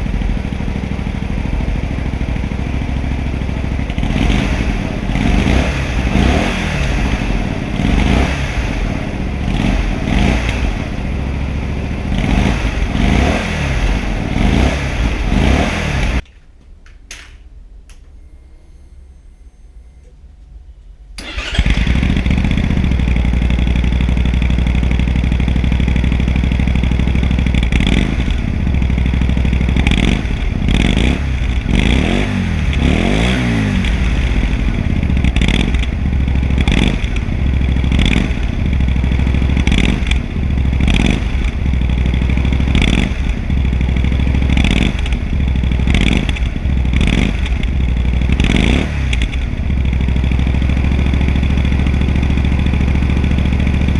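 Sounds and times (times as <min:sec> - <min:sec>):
motorcycle engine idling: 0:00.0 - 0:16.2, 0:21.2 - 0:53.9
motorcycle engine starting: 0:00.0 - 0:16.2, 0:21.2 - 0:53.9
motorcycle throttle blips: 0:00.1 - 0:16.3, 0:21.2 - 0:53.9.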